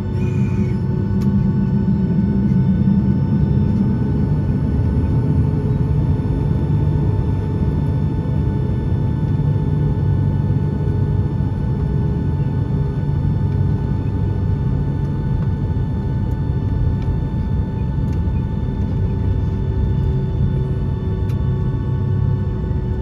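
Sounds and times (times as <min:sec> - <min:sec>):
jet engines rumbling and whining: 0:00.0 - 0:23.0.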